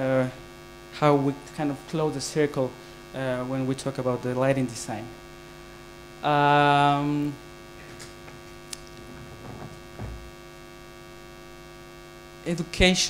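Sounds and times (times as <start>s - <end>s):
steady held tone: 0.0s - 12.9s
electrical mains hum: 0.0s - 13.0s.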